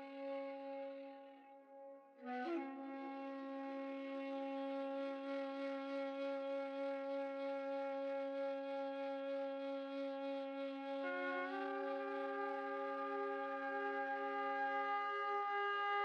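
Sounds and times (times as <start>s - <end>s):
low sustained wind instrument note: 0.0s - 16.0s.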